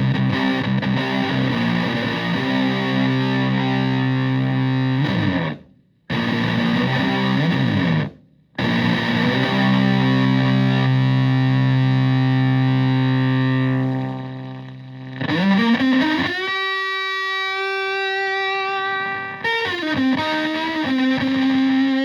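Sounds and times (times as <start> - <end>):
fuzz electric guitar chords: 0.0 - 22.0.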